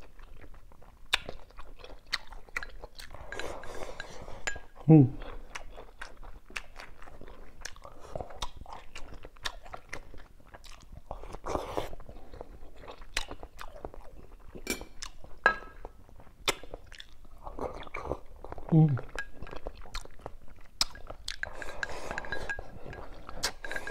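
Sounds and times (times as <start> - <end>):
person chewing: 0.0 - 23.9.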